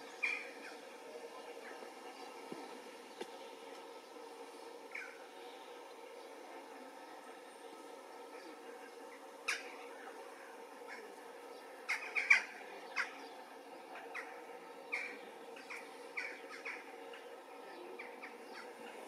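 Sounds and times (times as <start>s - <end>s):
faint steady hum: 0.0s - 19.0s
songbirds chirping: 0.0s - 19.0s.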